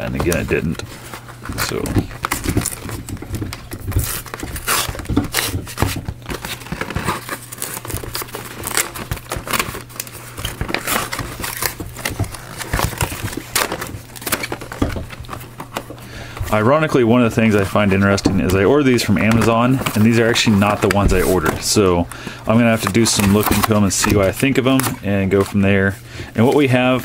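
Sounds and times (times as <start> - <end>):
cardboard tearing and crinkling: 0.0 - 27.0.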